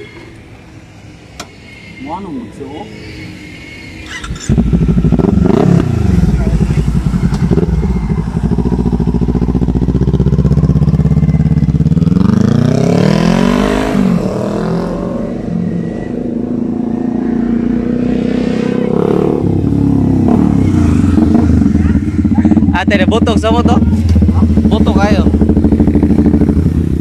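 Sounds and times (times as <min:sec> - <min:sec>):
motorcycle engine revving: 0:04.0 - 0:27.0.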